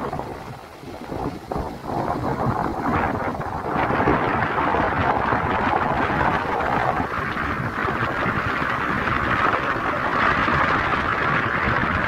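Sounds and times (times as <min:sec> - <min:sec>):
surf breaking on beach: 0:00.0 - 0:12.0
wind on microphone: 0:00.0 - 0:12.0.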